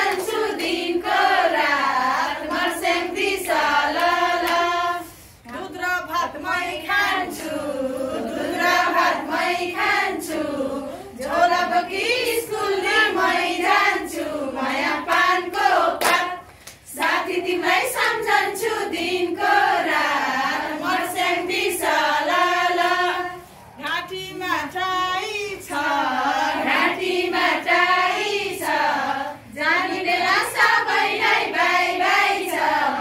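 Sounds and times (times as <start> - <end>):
women singing together: 0.0 - 33.0.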